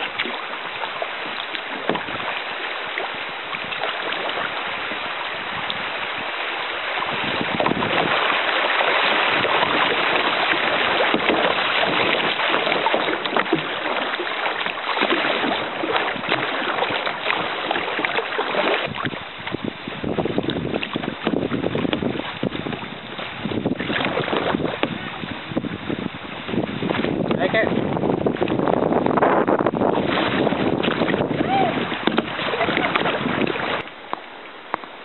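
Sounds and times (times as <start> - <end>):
river water rushing and splashing: 0.0 - 35.0.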